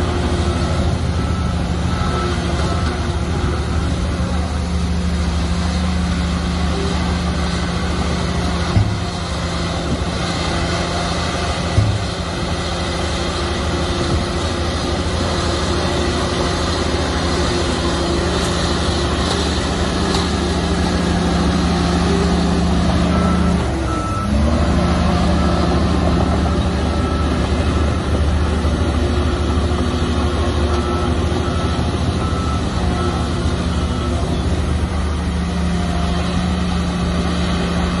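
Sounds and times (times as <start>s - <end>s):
reversing alarm beeping: 0.0s - 4.5s, 9.8s - 37.9s
heavy diesel engine running: 0.0s - 38.0s.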